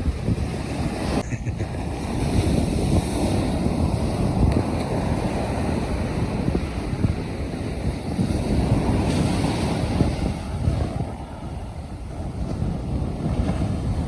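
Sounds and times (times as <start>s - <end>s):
surf washing on beach: 0.0s - 14.0s
wind buffeting microphone: 0.0s - 14.0s.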